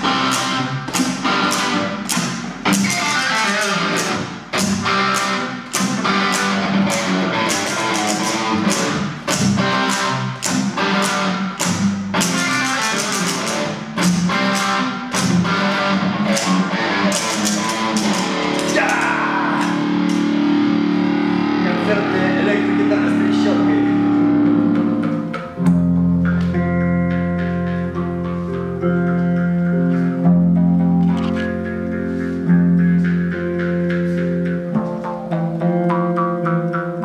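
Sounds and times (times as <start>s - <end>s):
electric guitar through amp: 0.0s - 37.0s.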